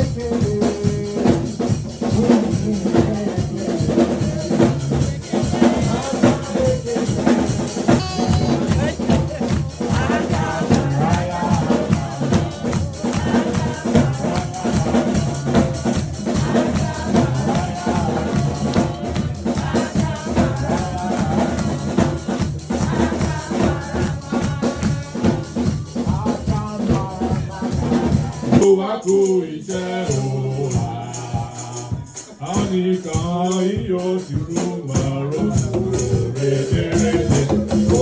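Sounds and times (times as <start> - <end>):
music with steady drum beat: 0.0 - 38.0
rattling percussion: 0.0 - 38.0.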